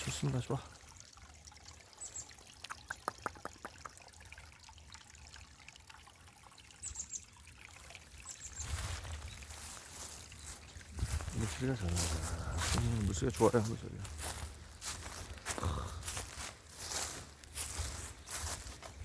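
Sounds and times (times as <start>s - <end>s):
stream trickling over rocks: 0.0s - 19.0s.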